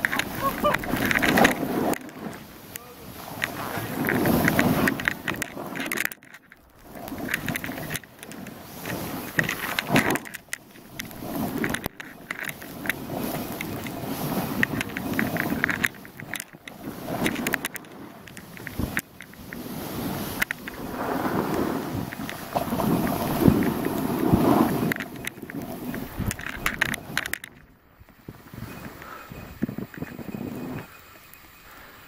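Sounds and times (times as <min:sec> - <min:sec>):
crackling ski edge: 0:00.0 - 0:32.0
skis scraping over snow: 0:00.0 - 0:32.0.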